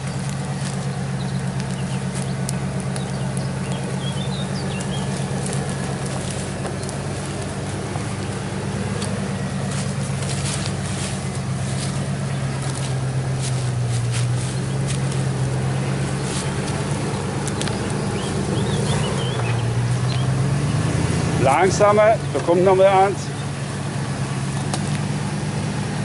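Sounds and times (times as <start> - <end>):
sharp clicks and crunches: 0.0 - 20.3, 24.5 - 25.2
truck engine running: 0.0 - 26.0.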